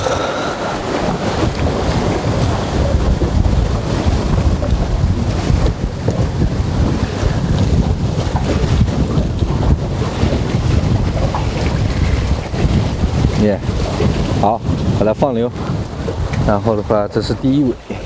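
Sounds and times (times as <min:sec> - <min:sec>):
choppy water against boat: 0:00.0 - 0:18.0
wind buffeting microphone: 0:00.0 - 0:18.0.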